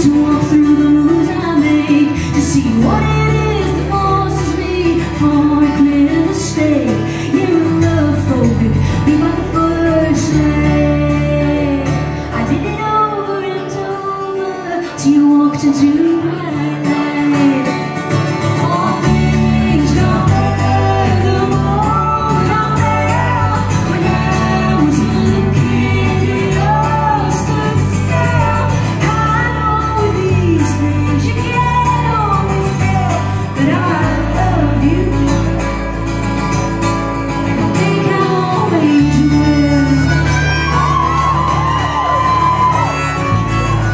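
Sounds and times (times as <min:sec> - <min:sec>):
electric bass: 0:00.0 - 0:13.0, 0:18.0 - 0:43.9
woman singing: 0:00.0 - 0:35.9, 0:37.4 - 0:42.8
strummed acoustic guitar: 0:00.0 - 0:43.9.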